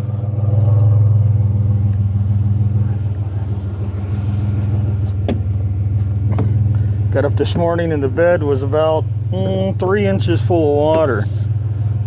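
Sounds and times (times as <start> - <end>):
truck engine and road drone: 0.0 - 12.0.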